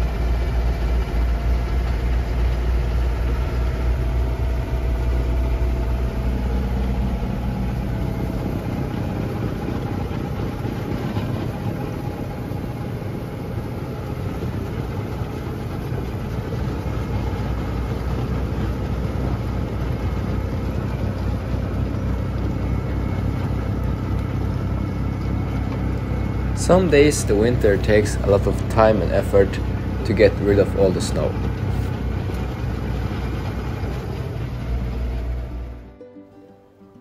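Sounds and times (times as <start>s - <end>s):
tractor diesel engine running: 0.0s - 36.2s.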